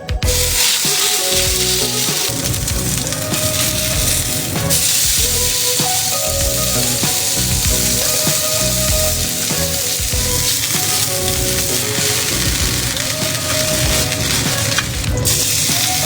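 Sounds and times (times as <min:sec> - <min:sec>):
background music: 0:00.0 - 0:16.0
food frying in a pan: 0:00.2 - 0:16.0.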